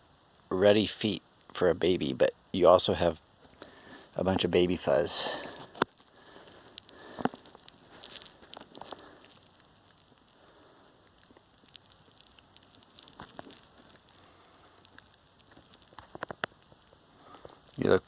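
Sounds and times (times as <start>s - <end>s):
high insect buzz: 0.0s - 18.0s
insects droning: 0.0s - 18.0s
small ticks and rustles: 0.0s - 18.0s.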